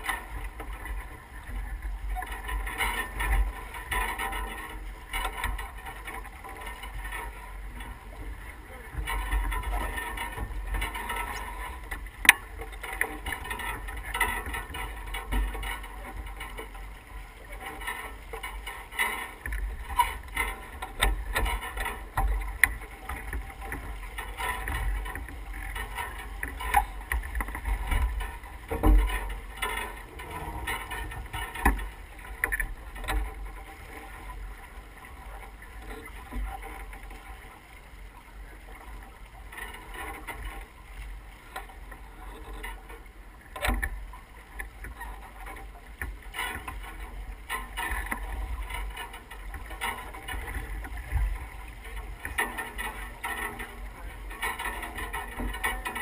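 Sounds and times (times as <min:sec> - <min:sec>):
water rushing along a hull: 0:00.0 - 0:56.0.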